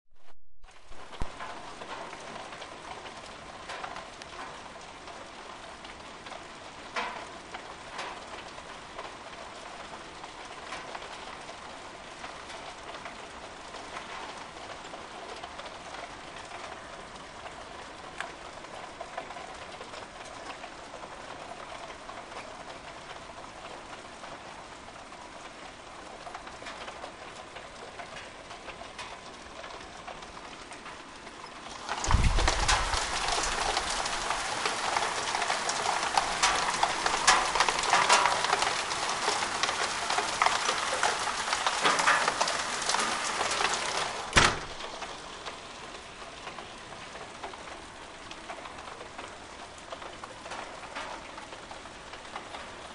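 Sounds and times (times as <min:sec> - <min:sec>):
hail and rain falling: 0:00.7 - 0:52.9.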